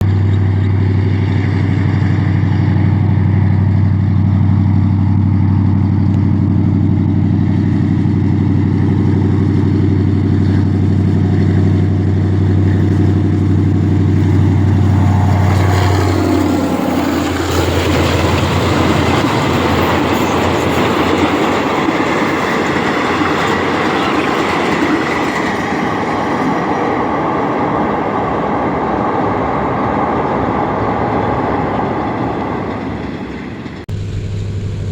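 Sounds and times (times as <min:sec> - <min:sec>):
carriages rolling on rails: 0:00.0 - 0:33.9
diesel train engine drone: 0:00.0 - 0:34.9.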